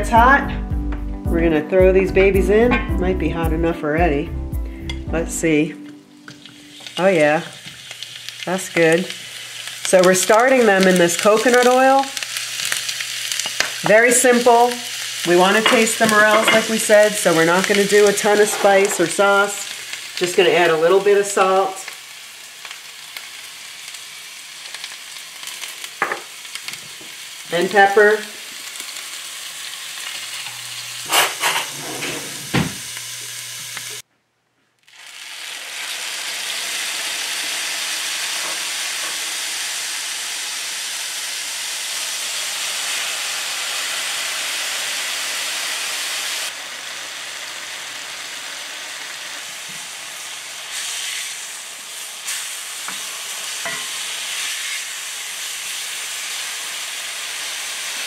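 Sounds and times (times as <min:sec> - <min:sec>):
steaks sizzling in skillet: 0:02.5 - 0:34.0, 0:34.8 - 0:58.0
mushrooms frying in oil: 0:04.1 - 0:34.0, 0:34.8 - 0:58.0.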